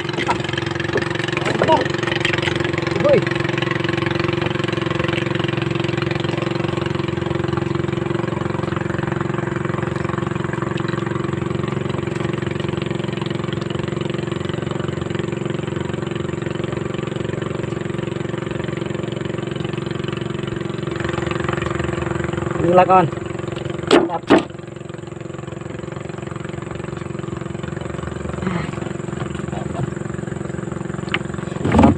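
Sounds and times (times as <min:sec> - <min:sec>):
small engine running steadily: 0:00.0 - 0:31.9.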